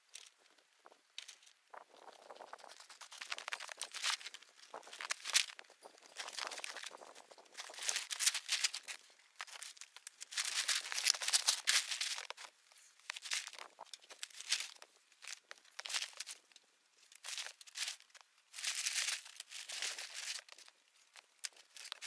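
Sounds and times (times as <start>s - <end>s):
tarp rustling and crinkling: 1.2s - 16.4s, 17.2s - 20.7s.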